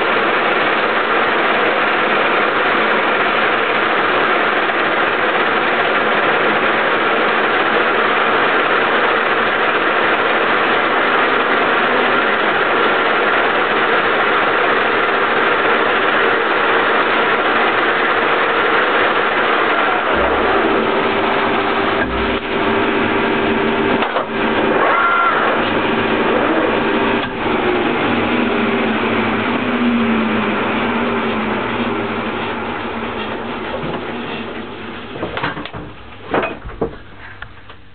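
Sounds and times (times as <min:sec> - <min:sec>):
lathe running: 0:00.0 - 0:36.2.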